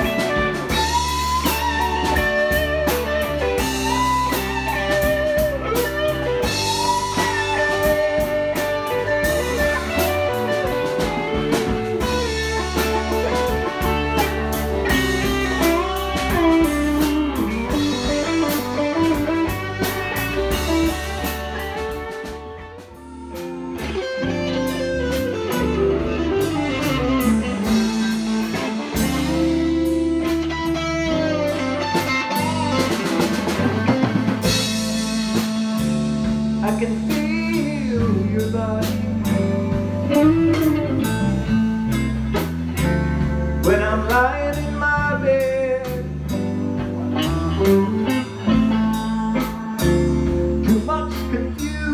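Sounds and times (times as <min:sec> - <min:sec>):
bass guitar: 0:00.0 - 0:51.9
drum kit: 0:00.0 - 0:51.9
electric guitar lead lines: 0:00.0 - 0:51.9.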